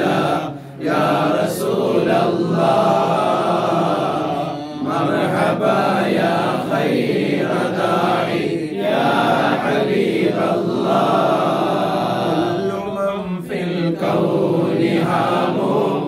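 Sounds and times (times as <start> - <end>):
men chanting: 0.0 - 16.0.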